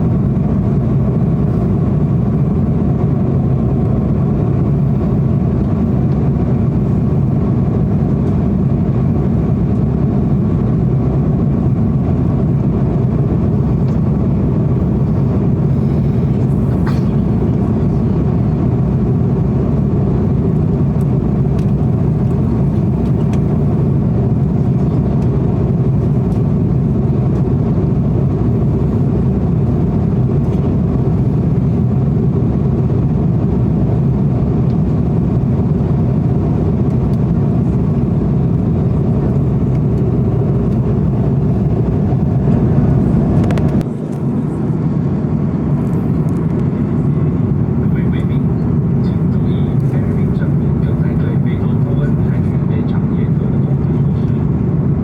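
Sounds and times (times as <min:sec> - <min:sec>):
airliner cabin roar: 0:00.0 - 0:55.0.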